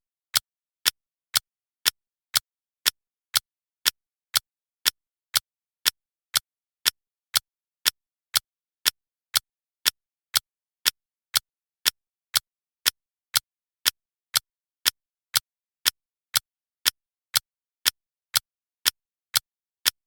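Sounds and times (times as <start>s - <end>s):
clock ticking: 0.0s - 20.0s.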